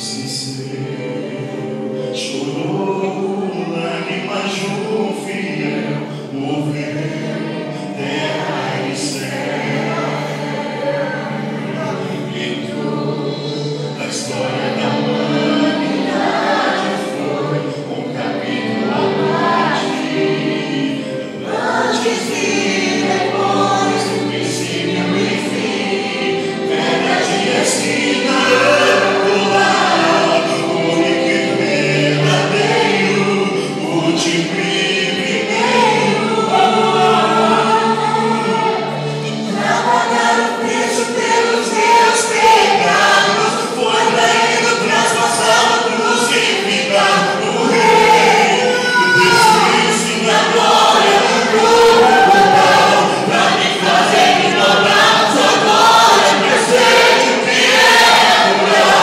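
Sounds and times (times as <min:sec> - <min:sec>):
choir singing gospel: 0:00.0 - 0:59.0.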